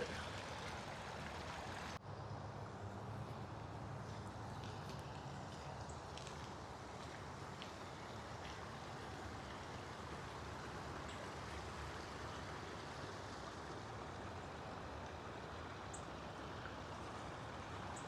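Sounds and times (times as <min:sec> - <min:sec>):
water running over a waterfall: 0:00.0 - 0:02.0, 0:04.4 - 0:18.0.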